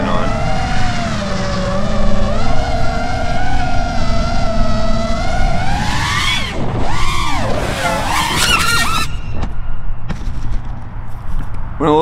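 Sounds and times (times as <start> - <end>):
drone motors whining: 0.0 - 10.8
drone crashing: 0.0 - 11.1.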